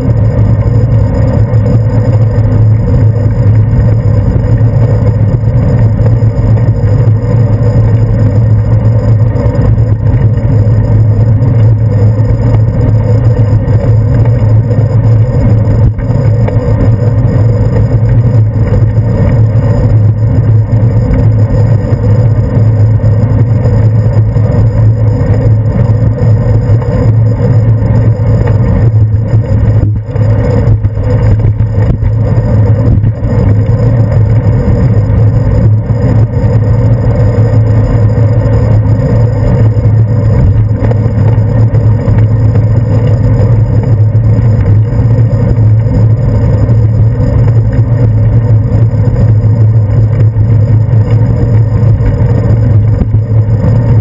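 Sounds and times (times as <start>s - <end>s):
wind and road rumble: 0.0s - 54.0s.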